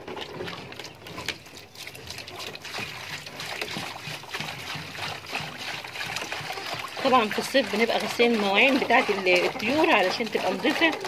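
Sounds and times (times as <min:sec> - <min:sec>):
water pouring into plastic trough: 0:00.0 - 0:11.0.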